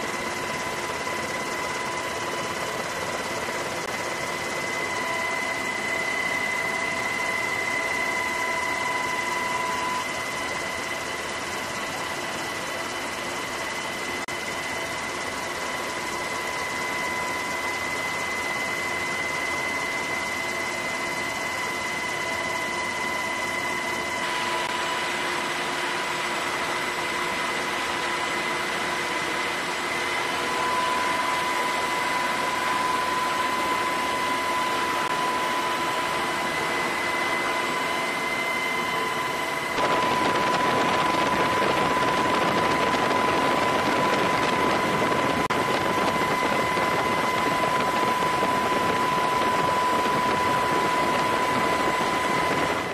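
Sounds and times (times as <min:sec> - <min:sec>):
constant high whine: 0:00.0 - 0:52.9
helicopter rotor and engine noise: 0:00.0 - 0:52.9.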